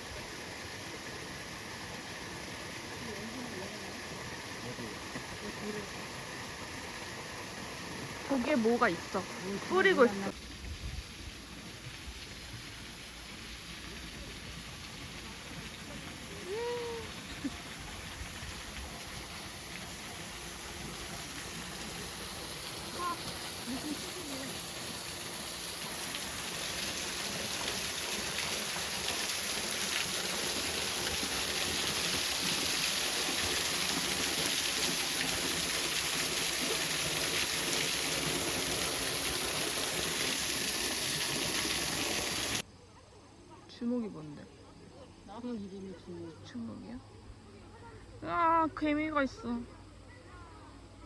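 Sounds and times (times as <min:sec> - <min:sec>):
water spraying: 0:00.0 - 0:42.6.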